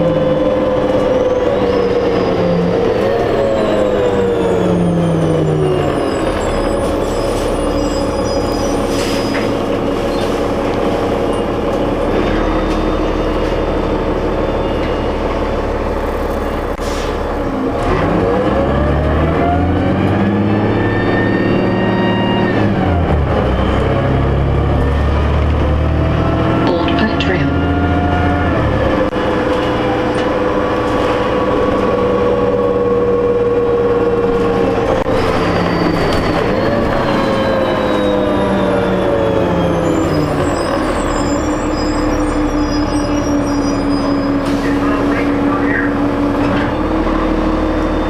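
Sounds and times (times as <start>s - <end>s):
bus engine and drivetrain whine: 0.0s - 48.0s.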